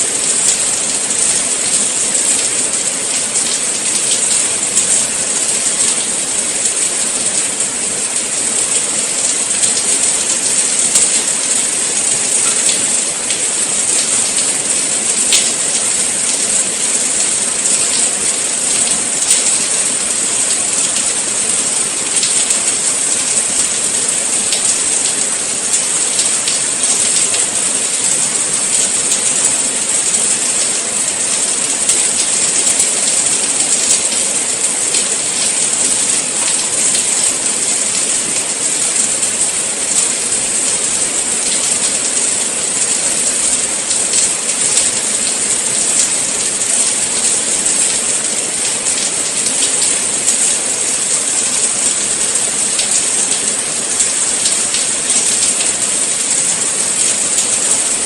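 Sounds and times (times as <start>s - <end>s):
steady rain hiss: 0.0s - 58.0s
raindrop ticks: 0.2s - 55.9s.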